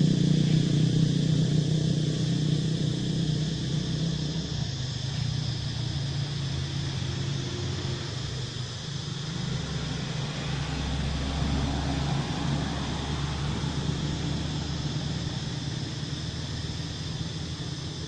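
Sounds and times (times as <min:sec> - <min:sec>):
background hiss: 0:00.0 - 0:18.0
low engine hum: 0:00.0 - 0:18.0.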